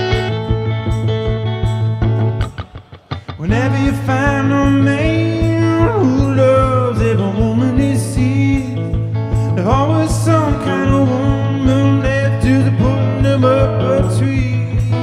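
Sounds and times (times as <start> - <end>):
solo electric guitar: 0.0 - 15.0.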